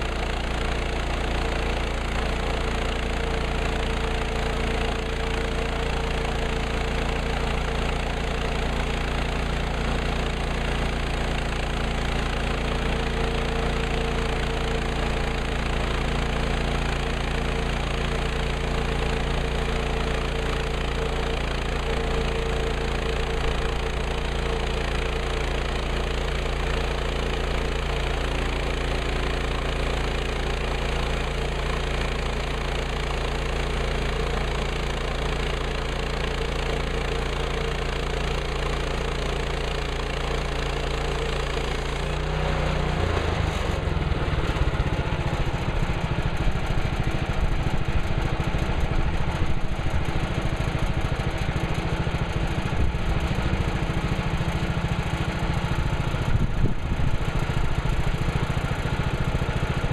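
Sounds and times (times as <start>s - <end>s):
sawmill gasoline engine running: 0.0s - 59.9s.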